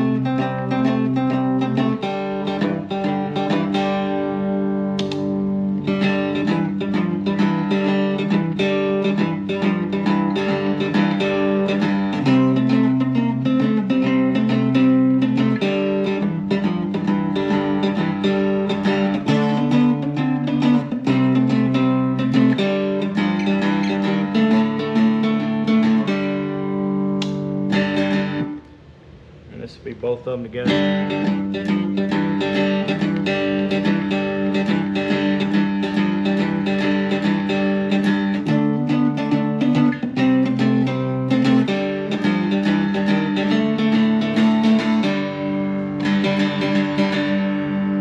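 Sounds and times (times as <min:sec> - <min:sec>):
guitar picked notes over drone: 0:00.0 - 0:28.8, 0:30.6 - 0:48.0.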